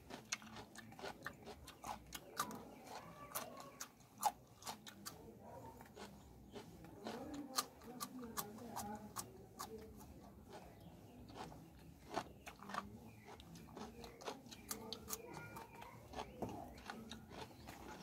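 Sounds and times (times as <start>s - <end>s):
cucumber crunching: 0.0s - 18.0s.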